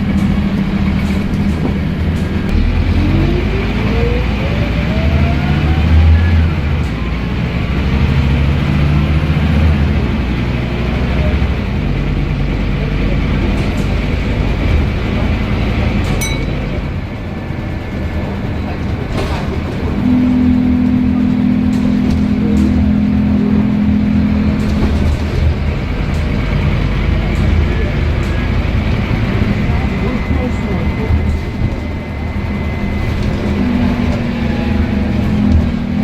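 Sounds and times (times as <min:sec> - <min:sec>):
bus engine droning: 0:00.0 - 0:36.0.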